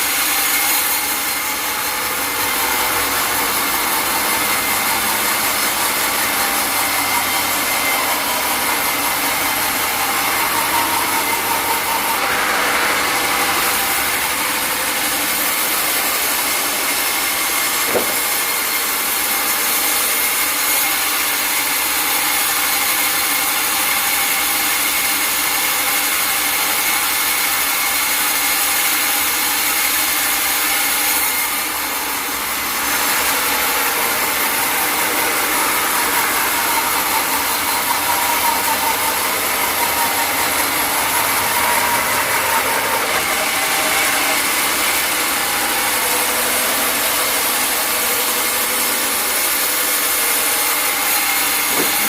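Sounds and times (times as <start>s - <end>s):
sawmill saw whining: 0.0s - 52.0s.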